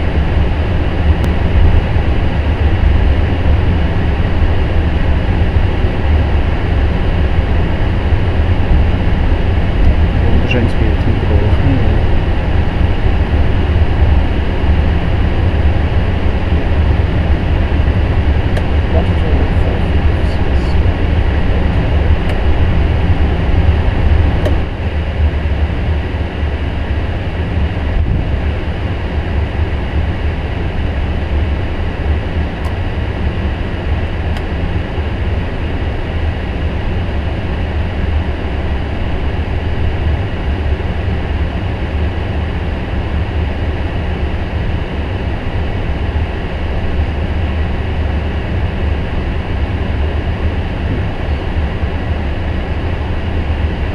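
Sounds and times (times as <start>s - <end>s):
low cockpit rumble: 0.0s - 53.9s.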